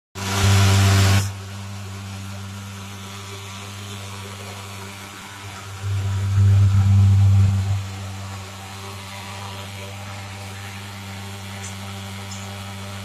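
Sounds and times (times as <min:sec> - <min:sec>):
pulse-jet fogger buzzing drone: 0:00.2 - 0:13.0.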